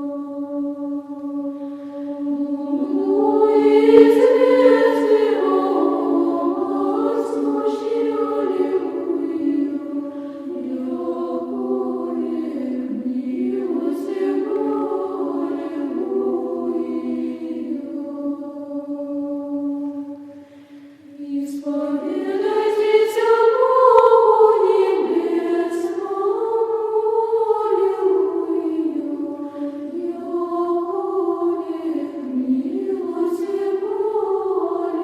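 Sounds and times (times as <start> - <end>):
choir chanting: 0.0 - 35.0.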